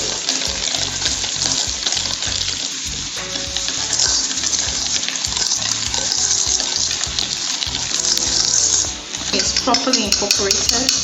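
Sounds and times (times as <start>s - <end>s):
background music: 0.0s - 11.0s
batter whisked by hand in bowl: 0.0s - 11.0s.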